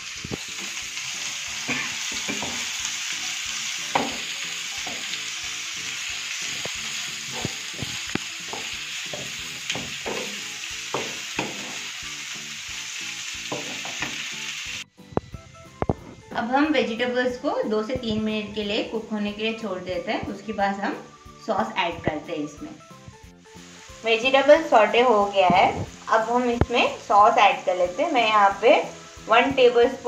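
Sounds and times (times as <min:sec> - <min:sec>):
vegetables sizzling in a frying pan: 0:00.0 - 0:14.9, 0:16.0 - 0:30.0.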